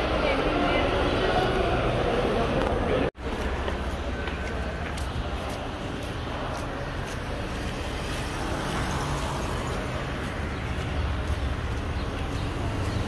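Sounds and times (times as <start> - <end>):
cars passing on a road: 0.0 - 13.0.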